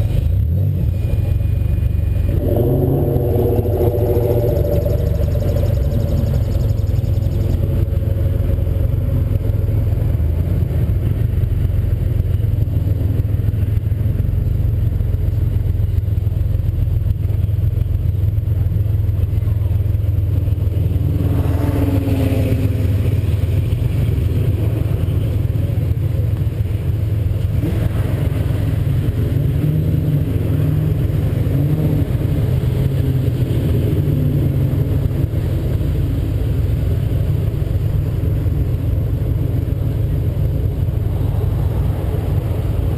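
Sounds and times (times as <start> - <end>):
cars driving past: 0.0 - 15.6, 20.4 - 42.9
car engine idling: 0.0 - 21.2, 21.8 - 42.9.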